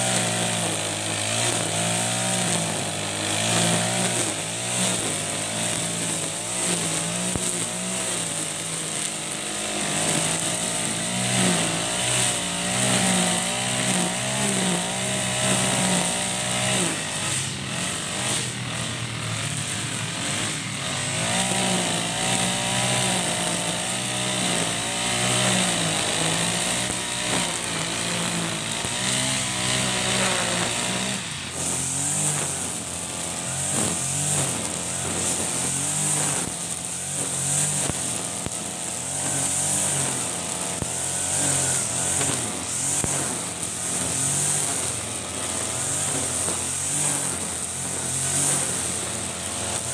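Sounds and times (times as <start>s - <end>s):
brush cutter engine: 0.0s - 49.9s
nylon line slashing grass: 0.0s - 49.9s.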